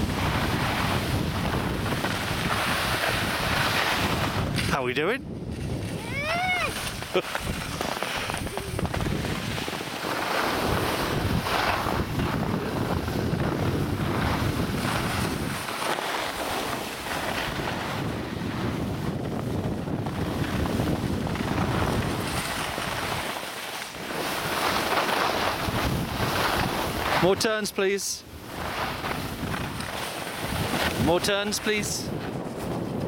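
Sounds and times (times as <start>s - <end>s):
skis sliding on snow: 0.0s - 4.9s, 5.5s - 33.0s
wind rushing over microphone: 0.0s - 33.0s.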